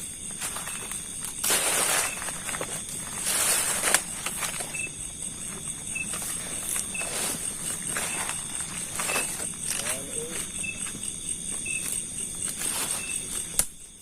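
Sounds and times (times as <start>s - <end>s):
footsteps rustling through undergrowth: 0.0s - 13.5s
crickets droning: 0.0s - 14.0s.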